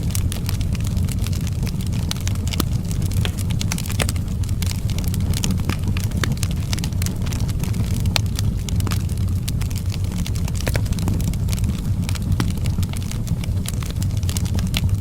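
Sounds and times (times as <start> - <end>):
low fire rumble: 0.0 - 15.0
wood fire crackling and popping: 0.0 - 15.0.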